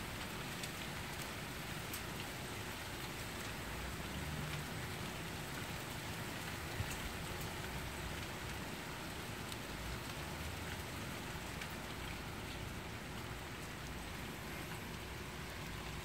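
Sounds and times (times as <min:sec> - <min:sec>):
steady rain falling: 0:00.0 - 0:16.0
raindrop ticks: 0:00.2 - 0:16.0.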